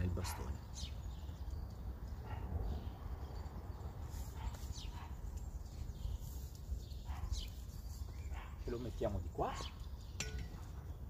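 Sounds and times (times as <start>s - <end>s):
high bird chirps: 0.0s - 11.0s.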